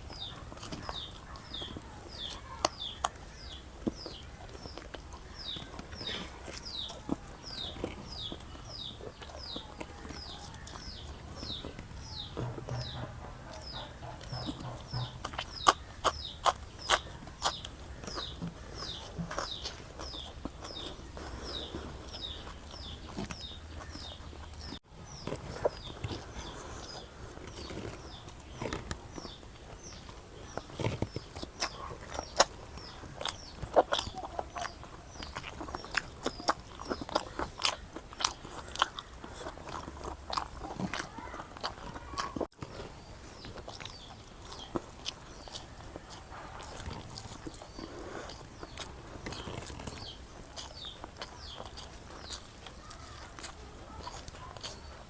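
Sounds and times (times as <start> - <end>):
person chewing crunchy food: 0.0 - 55.0
small birds chirping: 0.0 - 55.0.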